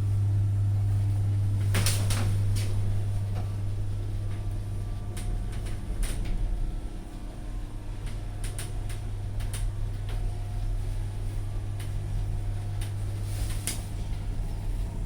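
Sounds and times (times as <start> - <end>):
lift drive humming: 0.0 - 15.0.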